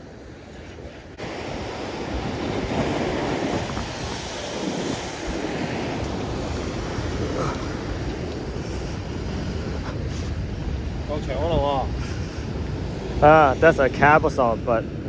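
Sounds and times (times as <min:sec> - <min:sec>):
ocean surf washing against rocks: 0:00.0 - 0:15.0.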